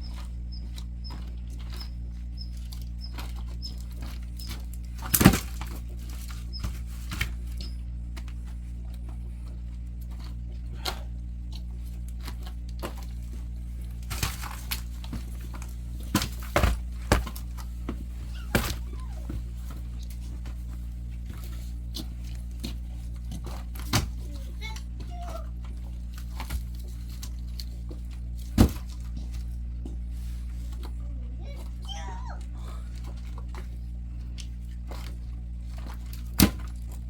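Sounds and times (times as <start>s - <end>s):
log splitter humming: 0.0s - 37.0s.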